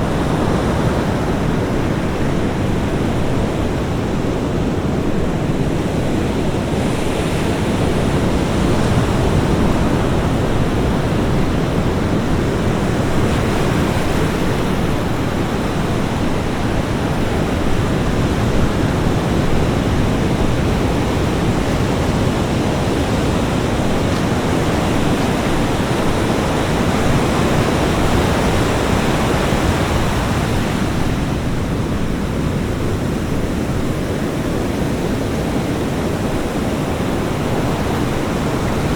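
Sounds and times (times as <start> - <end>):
ocean surf breaking on beach: 0.0 - 38.9.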